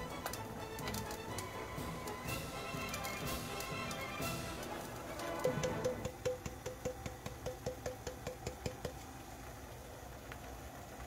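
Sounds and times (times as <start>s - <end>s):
chopsticks tapping metal pot: 0.1s - 9.0s.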